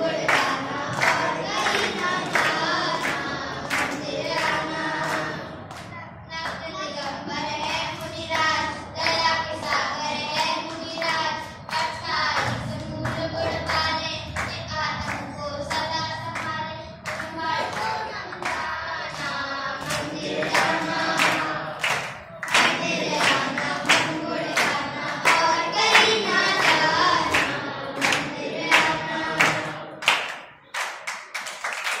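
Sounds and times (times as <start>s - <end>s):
children singing in unison: 0.0s - 30.5s
children clapping hands: 0.0s - 32.0s.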